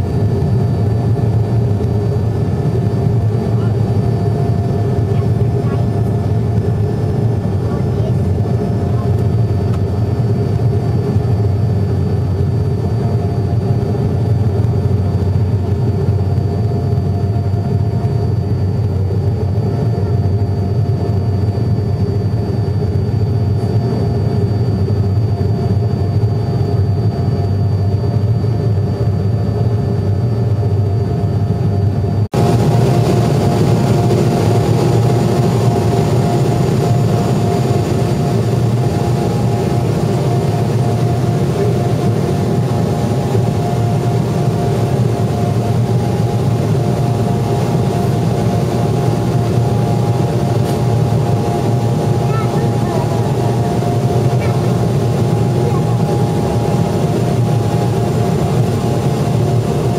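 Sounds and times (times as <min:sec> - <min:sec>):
faint steady whine: 0:00.0 - 0:59.9
jet engine and airflow drone: 0:00.0 - 0:59.9.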